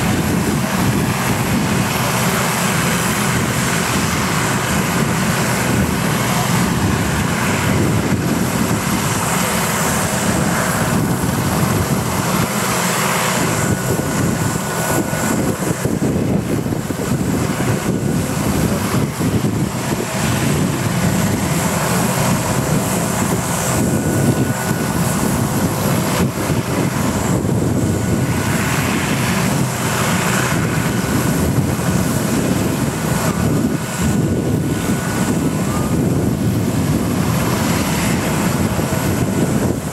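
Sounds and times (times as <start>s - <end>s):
helicopter rotors rumbling: 0.0s - 39.9s
helicopter turbines whining: 0.0s - 39.9s.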